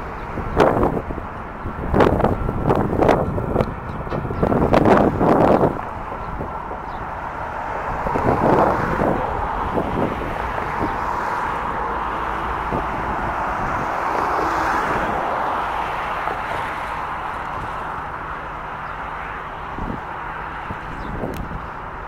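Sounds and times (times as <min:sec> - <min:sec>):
wind on microphone: 0:00.0 - 0:18.3, 0:19.6 - 0:22.0
distant diesel locomotives shunting: 0:00.0 - 0:20.5.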